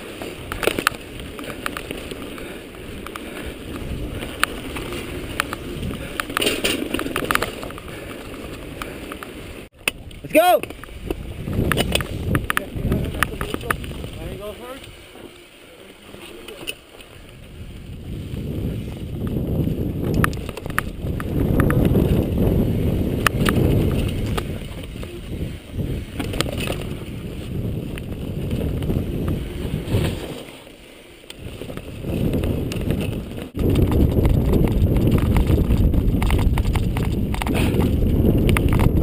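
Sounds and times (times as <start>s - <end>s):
wind buffeting microphone: 0.0s - 15.1s, 17.1s - 30.4s, 31.4s - 39.0s
bike clicks and rattles: 0.0s - 39.0s
bike tyres rumbling over dirt: 0.0s - 39.0s.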